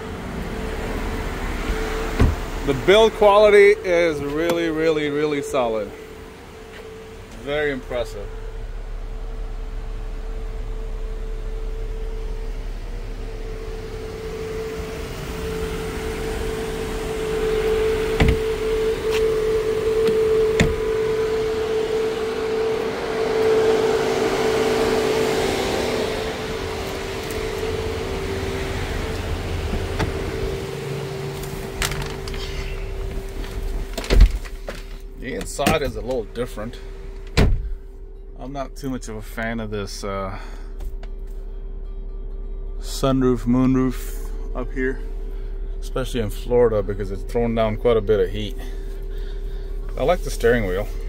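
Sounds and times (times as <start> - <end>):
mechanical droning hum: 0.0 - 51.0.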